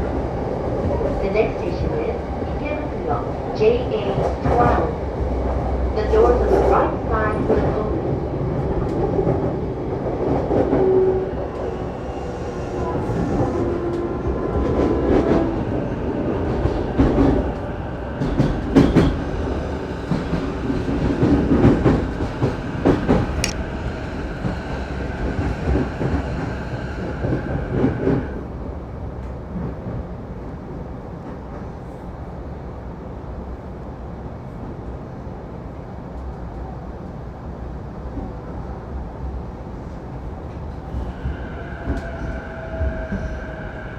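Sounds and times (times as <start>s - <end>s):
wheels rumbling on rail: 0.0s - 32.3s, 37.5s - 43.9s.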